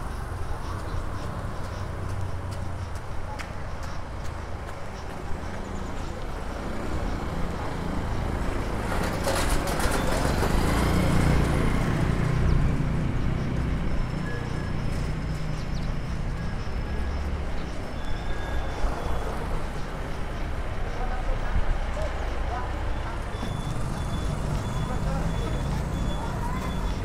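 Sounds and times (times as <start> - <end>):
road traffic engines: 0.0 - 27.0.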